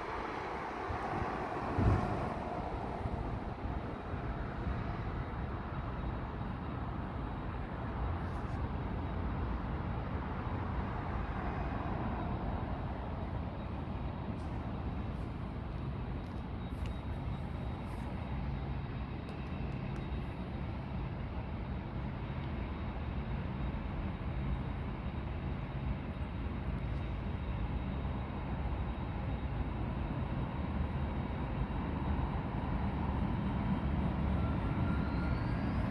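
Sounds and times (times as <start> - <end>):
jet engines at taxi power: 0.0 - 35.9.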